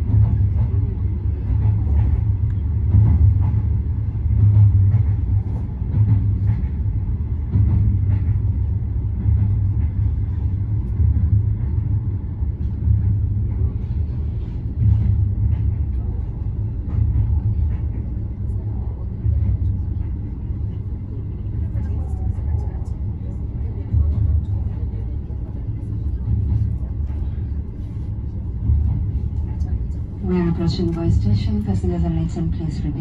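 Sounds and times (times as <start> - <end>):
train rumbling inside carriage: 0.0 - 33.0.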